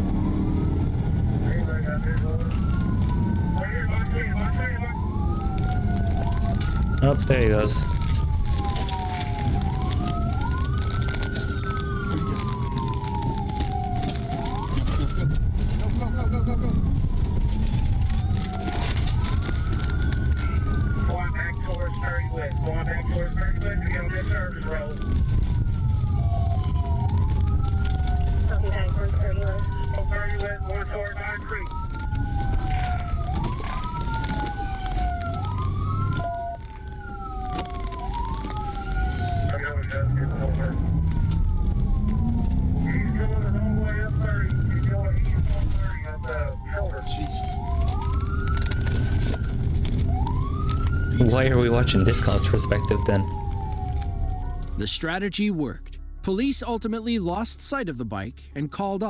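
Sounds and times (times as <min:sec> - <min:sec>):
car rumble: 0:00.0 - 0:55.2
second siren wail: 0:00.0 - 0:57.4
engine and road noise: 0:00.0 - 0:59.0
police siren wailing: 0:00.0 - 0:59.0.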